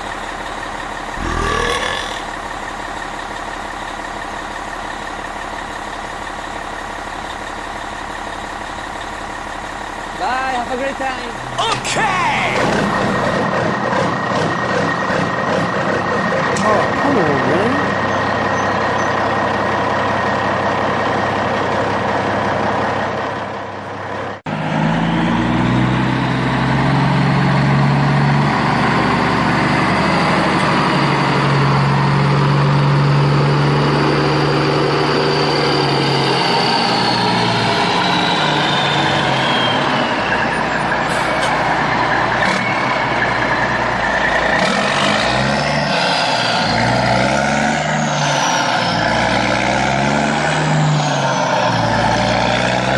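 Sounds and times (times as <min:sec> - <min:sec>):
heavy vehicle engine running: 0:00.0 - 0:52.9.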